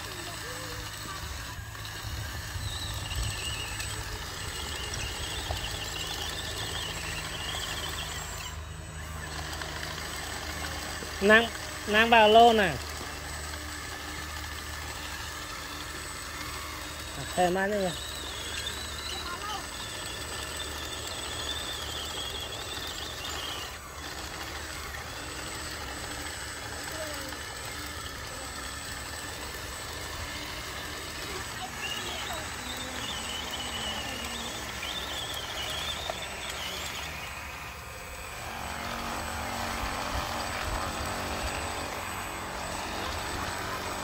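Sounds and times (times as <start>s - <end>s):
toy bulldozer motor hum: 0.0s - 44.0s
wavering high whine: 0.0s - 44.0s.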